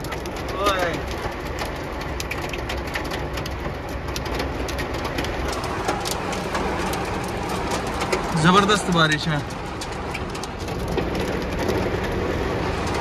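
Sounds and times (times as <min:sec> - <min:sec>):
rain and hail on car roof: 0:00.0 - 0:13.0.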